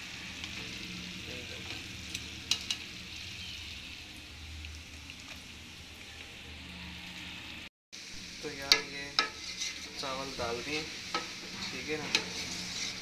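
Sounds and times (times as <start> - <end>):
food sizzling in a metal pot: 0.0 - 13.0.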